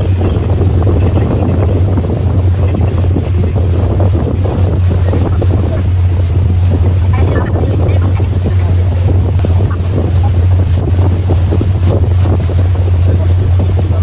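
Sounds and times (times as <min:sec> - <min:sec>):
boat engines droning: 0:00.0 - 0:14.0
wind buffeting microphone: 0:00.0 - 0:14.0.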